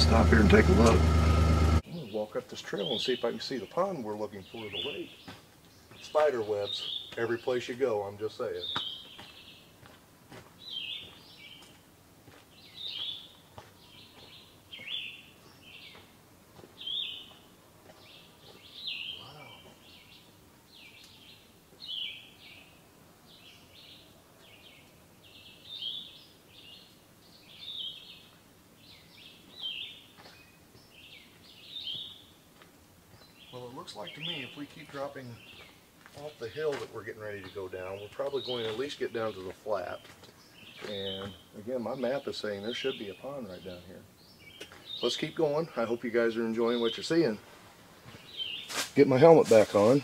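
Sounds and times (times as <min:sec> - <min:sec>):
faint woodland background: 0:00.0 - 0:50.0
songbird singing high phrases: 0:01.8 - 0:09.8, 0:10.6 - 0:11.7, 0:12.5 - 0:16.1, 0:16.7 - 0:32.5, 0:33.1 - 0:47.4, 0:48.2 - 0:49.3.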